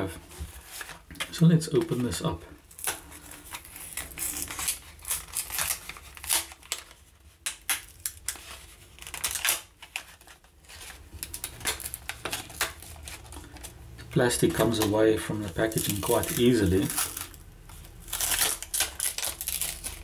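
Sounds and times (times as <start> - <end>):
plastic blister pack crinkling: 0.7 - 20.0.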